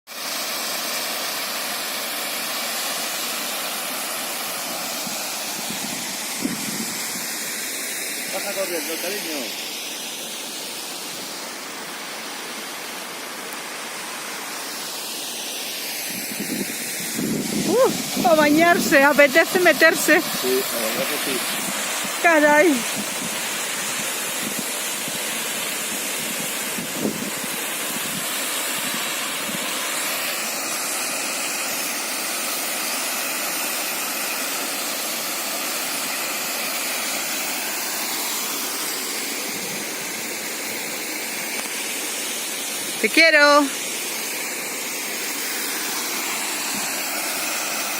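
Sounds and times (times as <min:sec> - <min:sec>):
waterfall rushing: 0:00.1 - 0:47.9.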